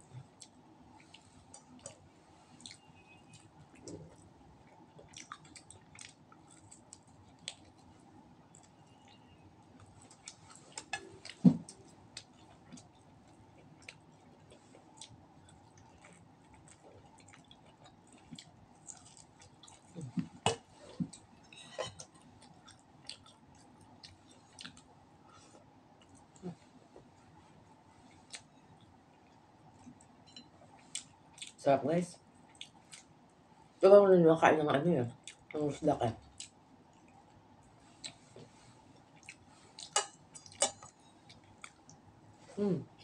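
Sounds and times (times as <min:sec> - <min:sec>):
chewing with small smacks: 0:00.0 - 0:31.6, 0:32.2 - 0:33.4, 0:35.1 - 0:43.0.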